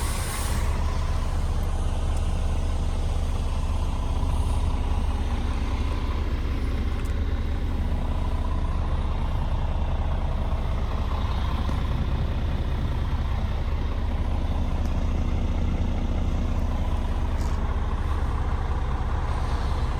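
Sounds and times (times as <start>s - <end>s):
diesel truck engine idling: 0.0s - 19.9s.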